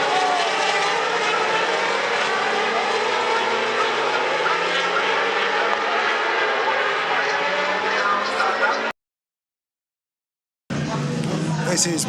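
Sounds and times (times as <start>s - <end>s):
racing motorcycle engines: 0.0s - 8.9s, 10.7s - 12.0s.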